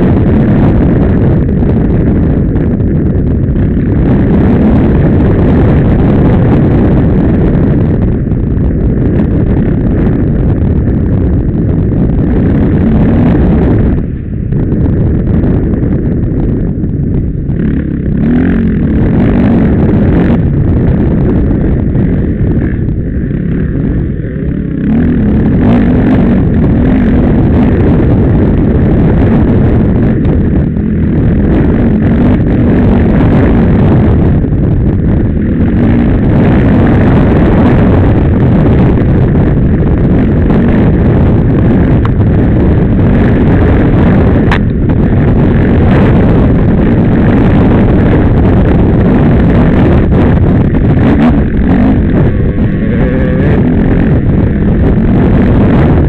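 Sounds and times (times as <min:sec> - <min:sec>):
wind buffeting microphone: 0:00.0 - 0:56.0
dirt bike engine revving: 0:08.2 - 0:14.3, 0:17.0 - 0:56.0.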